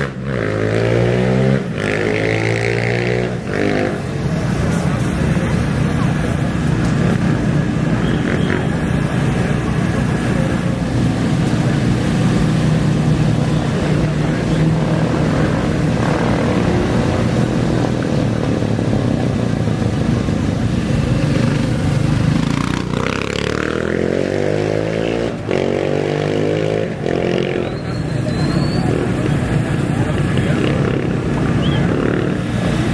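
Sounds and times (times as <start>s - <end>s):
dirt bike and quad engines running: 0.0s - 32.9s
engine revving and accelerating away: 0.0s - 32.9s.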